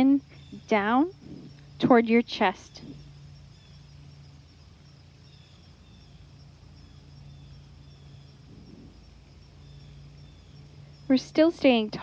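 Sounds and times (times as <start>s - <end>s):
insects chirping: 0.0s - 12.0s
light hiss: 0.0s - 12.0s
low steady hum: 0.0s - 12.0s.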